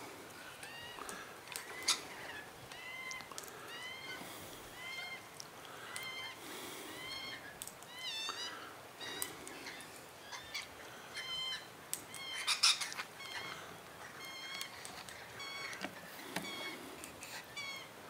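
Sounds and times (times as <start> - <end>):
parrots calling: 0.4 - 18.0.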